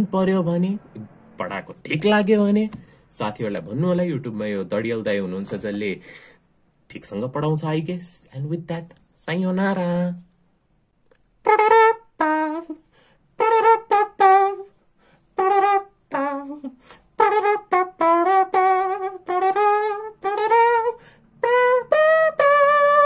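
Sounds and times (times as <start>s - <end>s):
man singing wordless melody: 0.0s - 6.0s, 6.9s - 10.4s, 11.4s - 14.7s, 15.4s - 23.0s.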